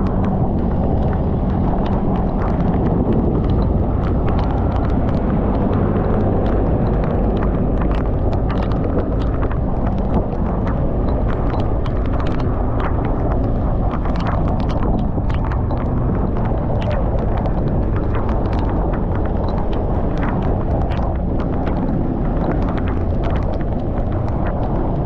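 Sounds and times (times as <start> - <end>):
raindrops ticking on microphone: 0.0 - 25.0
wind and engine rumble: 0.0 - 25.0.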